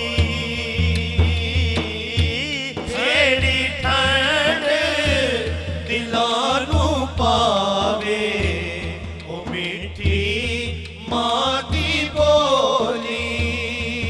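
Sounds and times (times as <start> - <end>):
deep bass drum beats: 0.0 - 12.5
men singing devotional melody: 0.0 - 14.0.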